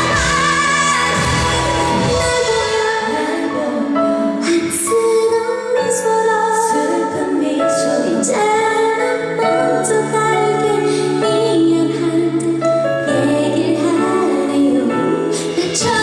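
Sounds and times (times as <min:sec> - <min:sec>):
musical accompaniment: 0:00.0 - 0:16.0
woman singing a slow ballad: 0:00.0 - 0:16.0.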